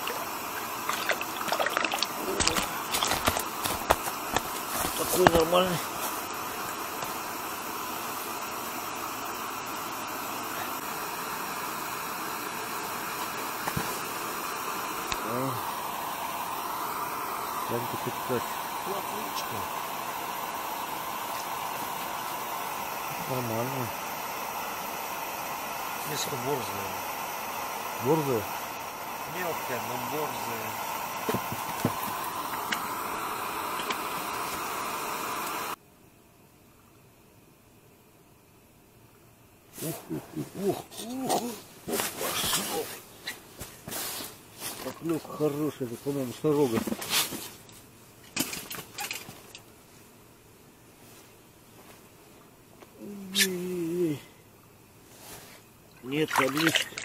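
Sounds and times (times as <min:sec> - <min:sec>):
gas burner flame hissing: 0:00.0 - 0:35.8, 0:39.7 - 0:49.2, 0:52.9 - 0:54.3.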